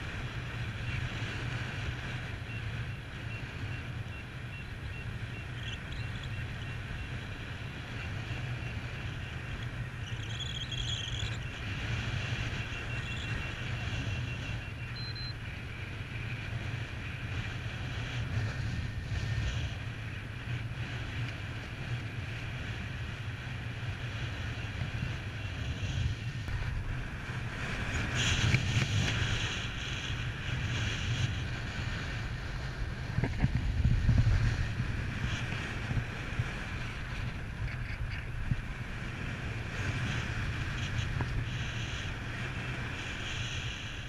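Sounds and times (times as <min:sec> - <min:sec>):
model aircraft engine droning: 0:00.0 - 0:44.0
wind rumbling on microphone: 0:00.0 - 0:44.0.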